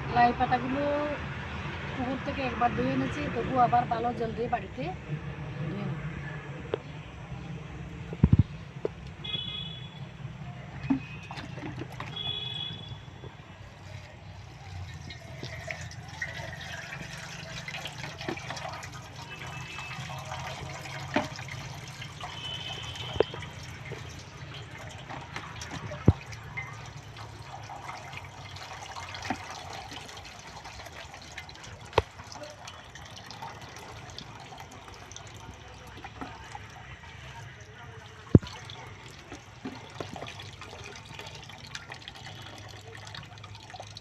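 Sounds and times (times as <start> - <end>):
water splashing and trickling: 6.8 - 44.0.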